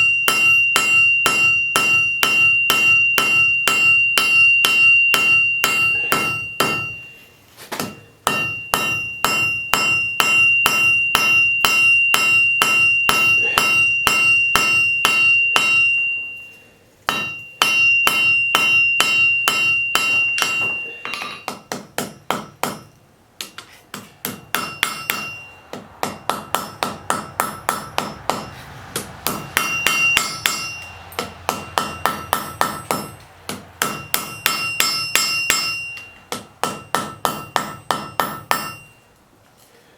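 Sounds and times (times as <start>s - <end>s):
hammer striking iron on anvil: 0.0s - 16.5s, 17.1s - 39.0s.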